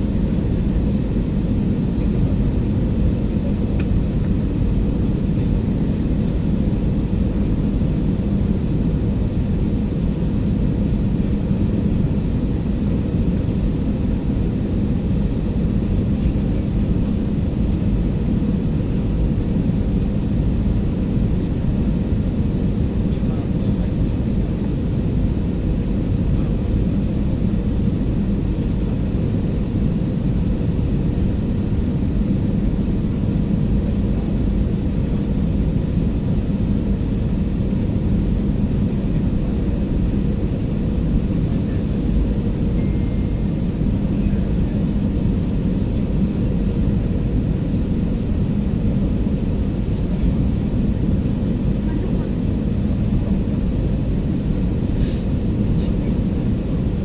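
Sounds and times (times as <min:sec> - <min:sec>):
constant low hum: 0:00.0 - 0:57.0
jet engines droning: 0:00.0 - 0:57.0.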